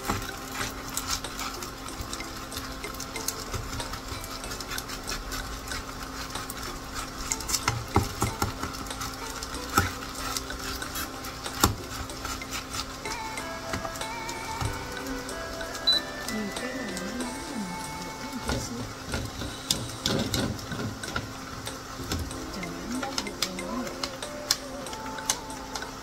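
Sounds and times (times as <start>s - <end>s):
light sizzle of frying: 0.0s - 26.0s
spatula scraping frying pan: 0.0s - 26.0s.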